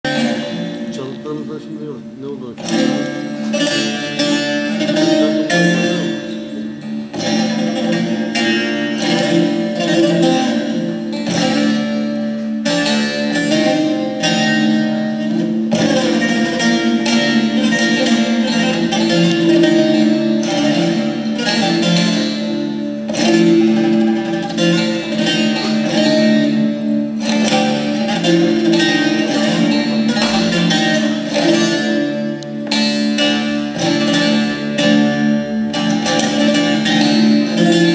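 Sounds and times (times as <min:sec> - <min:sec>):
plucked lutes playing folk tune: 0:00.0 - 0:37.9.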